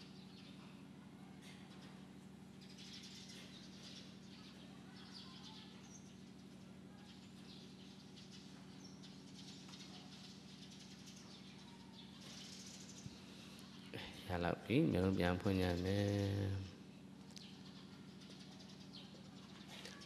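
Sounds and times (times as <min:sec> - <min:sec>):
faint bird chirps: 0:00.0 - 0:14.2, 0:14.8 - 0:20.0
faint low hum: 0:00.0 - 0:20.0.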